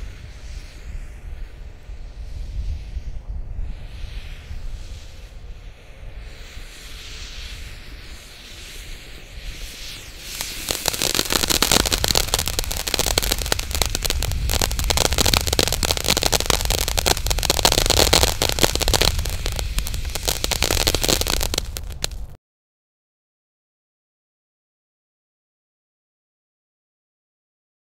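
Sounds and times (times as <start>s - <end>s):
firework fountain hissing and crackling: 0.0s - 22.4s.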